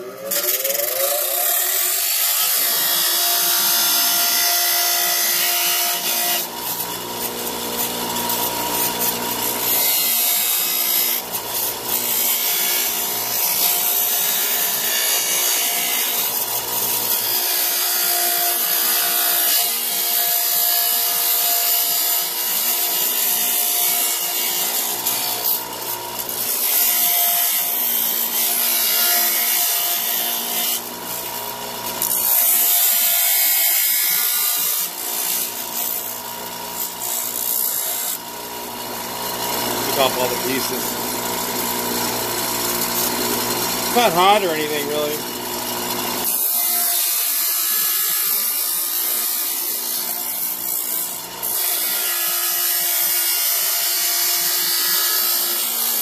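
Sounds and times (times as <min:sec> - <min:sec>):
grinder grinding plastic: 0:00.0 - 0:56.0.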